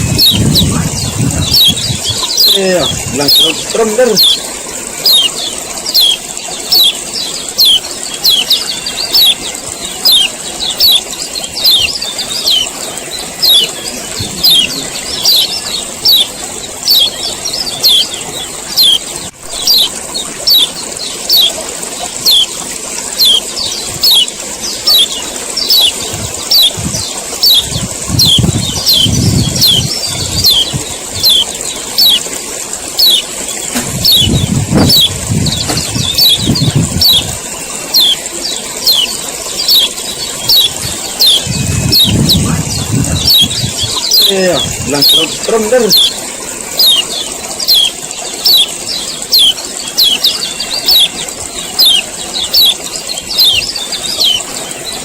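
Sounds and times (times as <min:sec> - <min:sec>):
constant high hiss: 0:00.0 - 0:55.0.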